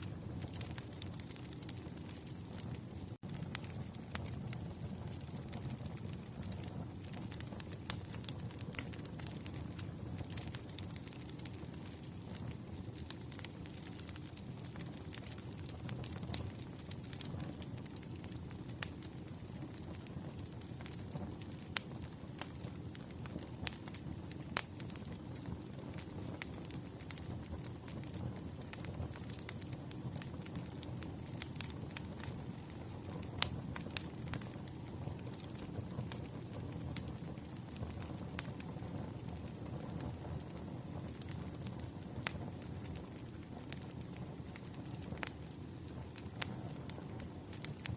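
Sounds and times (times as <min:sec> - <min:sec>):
firewood crackling: 0:00.0 - 0:47.9
low rumble of flames: 0:00.0 - 0:47.9
sharp snaps and pops of fire: 0:00.0 - 0:47.9.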